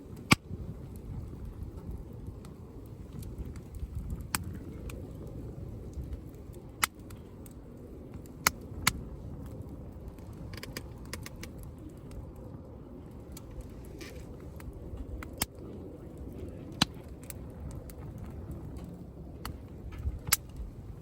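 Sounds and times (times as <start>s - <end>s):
campfire crackling and popping: 0.0s - 21.0s
steady low rumble: 0.0s - 21.0s.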